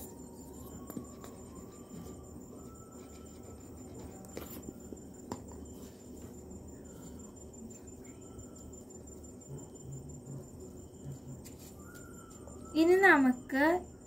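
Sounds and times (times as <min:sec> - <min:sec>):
cricket trill: 0:00.0 - 0:14.0
low background hum: 0:00.0 - 0:14.0.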